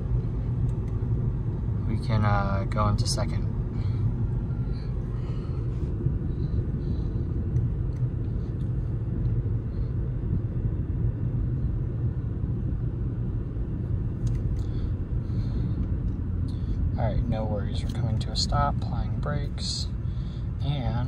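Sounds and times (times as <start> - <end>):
engine idling: 0.0 - 21.0
road and tyre noise: 0.0 - 21.0.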